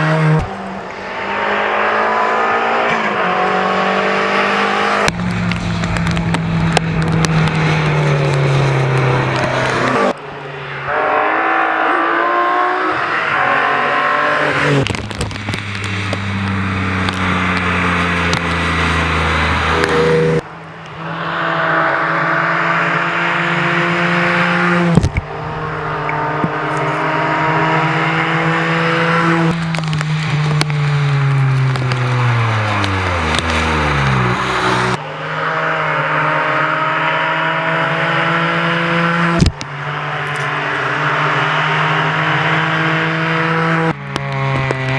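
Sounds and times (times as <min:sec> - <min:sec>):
rally car engines revving past: 0:00.0 - 0:44.9.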